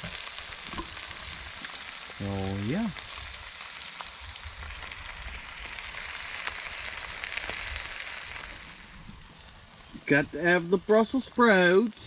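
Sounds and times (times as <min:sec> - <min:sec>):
burgers sizzling: 0:00.0 - 0:12.0.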